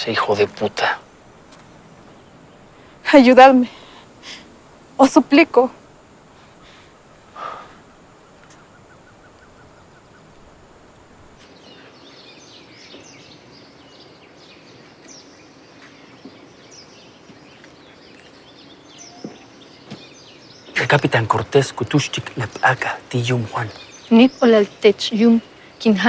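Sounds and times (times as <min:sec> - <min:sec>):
low steady background hiss: 0:00.0 - 0:26.0
small birds chirping: 0:00.0 - 0:26.0.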